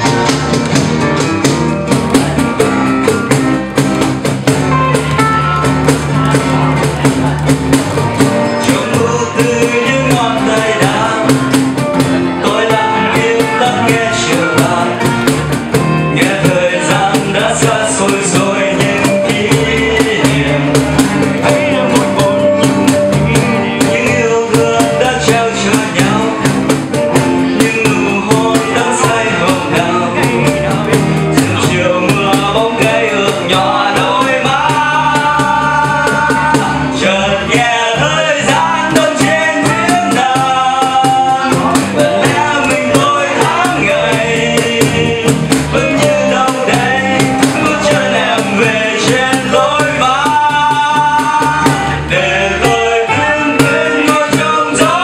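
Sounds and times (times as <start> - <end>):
pop song with guitar and drums: 0.0 - 55.0.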